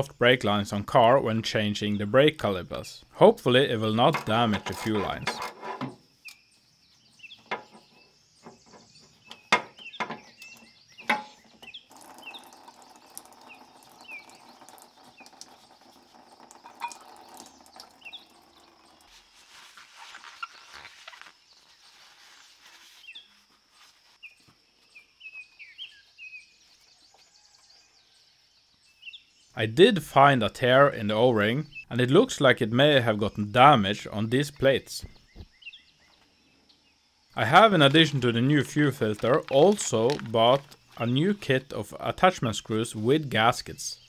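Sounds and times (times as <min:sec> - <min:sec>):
small birds chirping: 0:06.0 - 0:29.6, 0:30.2 - 0:44.0.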